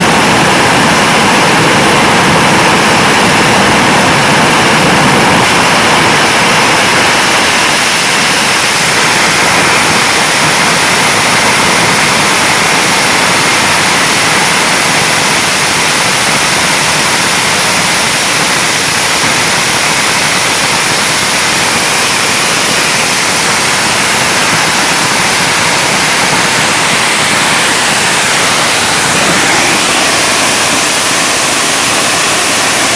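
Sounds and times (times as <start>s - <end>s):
jet engine roaring: 0.0s - 32.9s.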